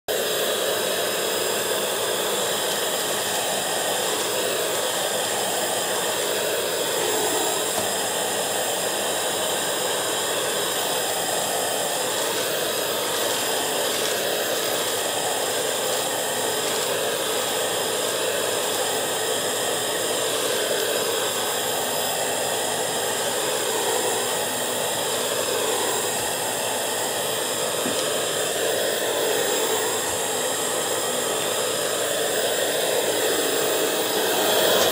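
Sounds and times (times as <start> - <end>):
stick vacuum motor whine: 0.1 - 34.9
vacuum nozzle pushed over rug: 0.1 - 34.9.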